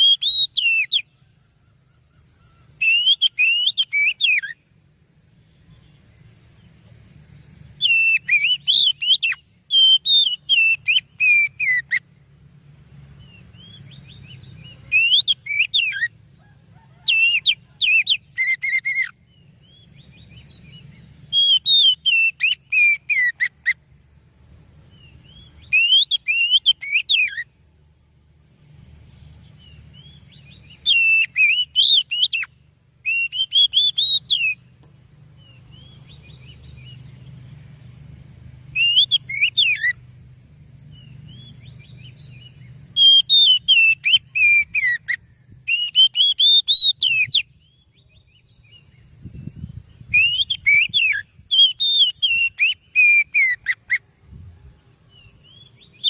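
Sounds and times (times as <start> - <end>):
bird singing rattling whistles: 0.0 - 27.7, 29.0 - 34.7, 35.4 - 56.0
faint low hum: 0.0 - 56.0.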